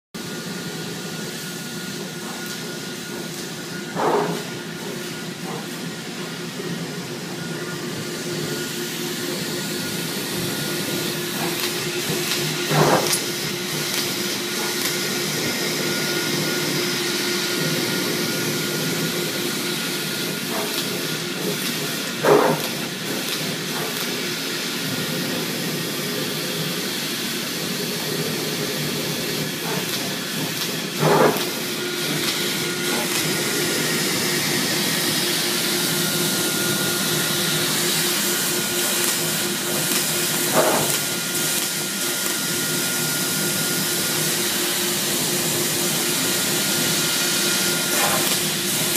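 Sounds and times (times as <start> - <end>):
laser cutter air hiss: 0.2 - 48.9
machine hum: 0.2 - 48.9.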